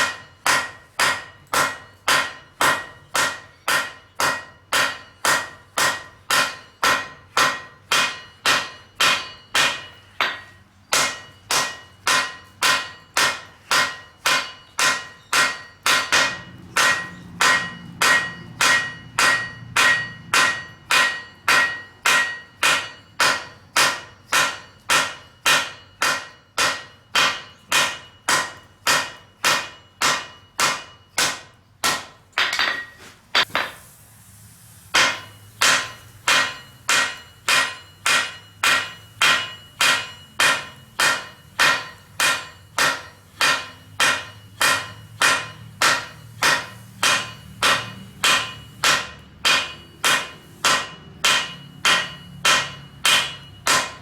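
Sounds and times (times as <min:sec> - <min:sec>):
hammer ringing on anvil: 0:00.0 - 0:33.8, 0:35.0 - 0:54.0.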